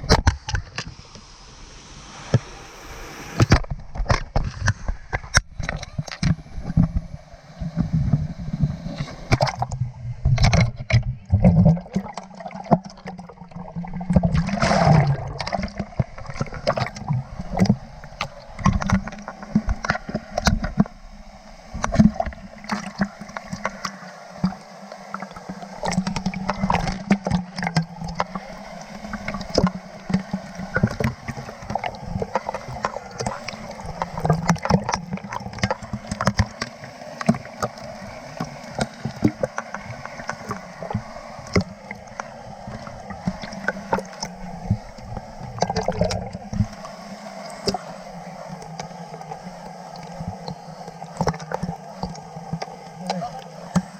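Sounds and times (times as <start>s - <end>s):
rushing water: 0.0s - 53.9s
water splashing and gurgling: 0.0s - 53.9s.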